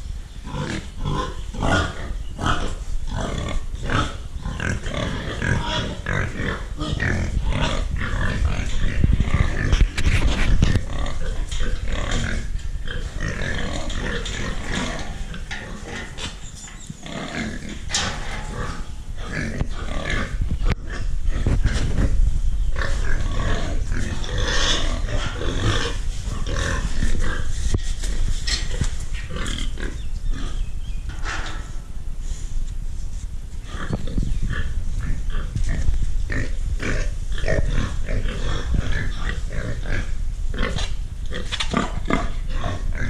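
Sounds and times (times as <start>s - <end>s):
steady low rumble: 0.0s - 16.1s, 17.1s - 43.0s
pigs calling: 0.5s - 27.7s, 33.7s - 43.0s.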